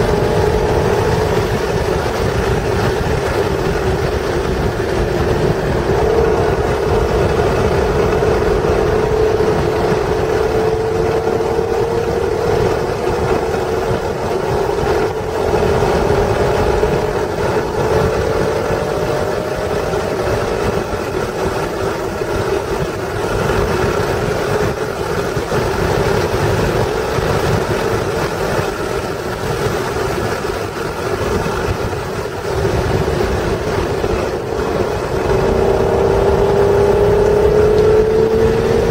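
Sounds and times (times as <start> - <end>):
car engine running hard: 0.0 - 38.9
road and wind noise: 0.0 - 38.9.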